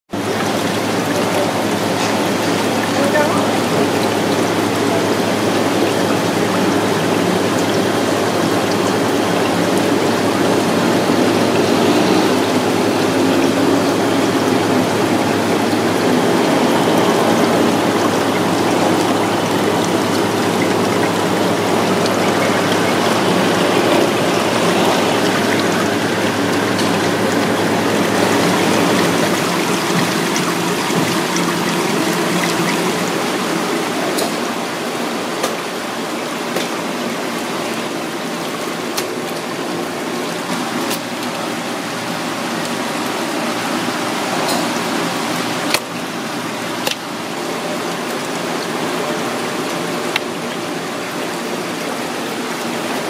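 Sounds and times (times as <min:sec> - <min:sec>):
running and splashing water: 0:00.1 - 0:53.0.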